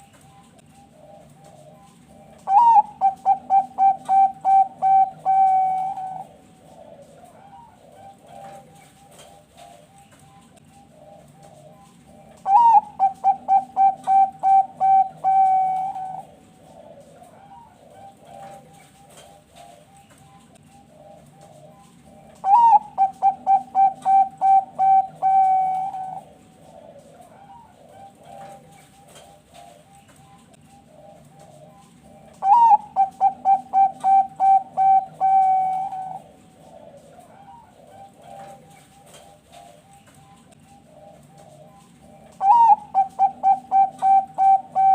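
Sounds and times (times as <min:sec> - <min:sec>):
background doves cooing: 0:00.0 - 0:44.9
dove singing clipped coos: 0:00.0 - 0:44.9.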